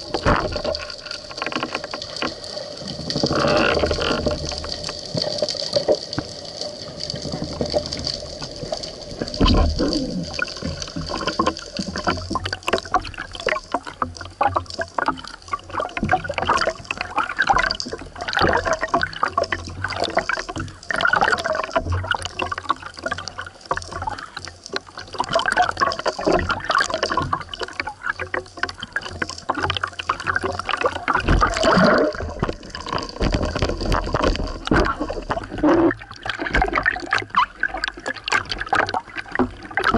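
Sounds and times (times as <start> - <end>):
bubbles: 0.0 - 39.9
water sloshing and splashing: 0.0 - 39.9.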